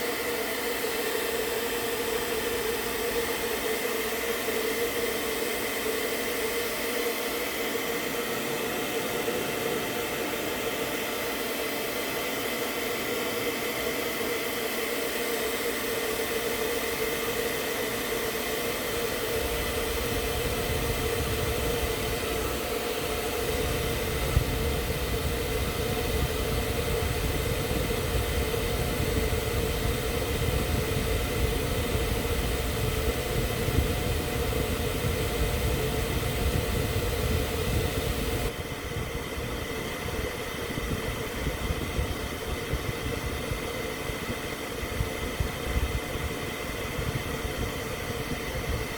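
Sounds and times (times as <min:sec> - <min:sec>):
hair dryer running: 0:00.0 - 0:48.9.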